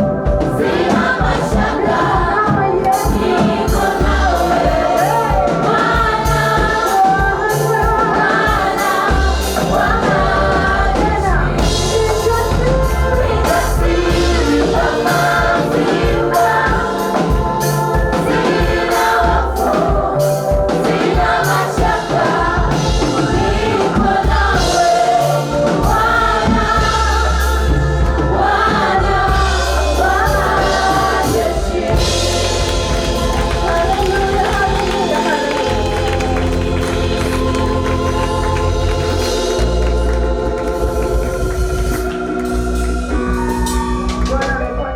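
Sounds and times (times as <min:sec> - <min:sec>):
gospel choir singing: 0:00.0 - 0:44.9
instrumental backing with beat: 0:00.0 - 0:44.9.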